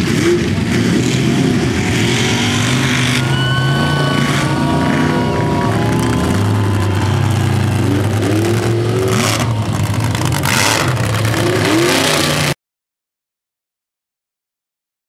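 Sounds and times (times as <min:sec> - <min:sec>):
truck engines revving: 0:00.0 - 0:12.6.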